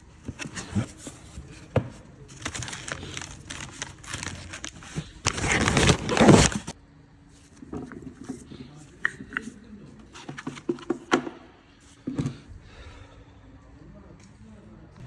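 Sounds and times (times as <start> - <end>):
crinkling and scraping of handling: 0.0 - 12.5.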